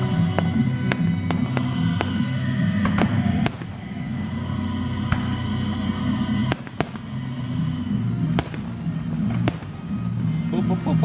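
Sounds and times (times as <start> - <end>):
fireworks bursting: 0.0 - 11.0
music playing: 0.0 - 11.0.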